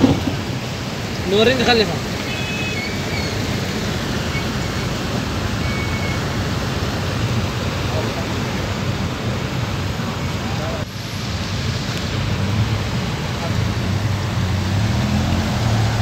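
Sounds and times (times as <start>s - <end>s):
low street rumble: 0.0s - 16.0s.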